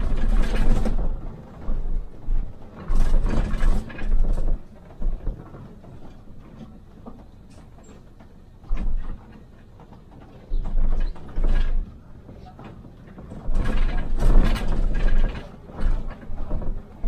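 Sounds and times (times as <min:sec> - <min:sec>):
rattling and knocking in a bus: 0:00.0 - 0:17.0
steady bus rumble: 0:00.0 - 0:17.0.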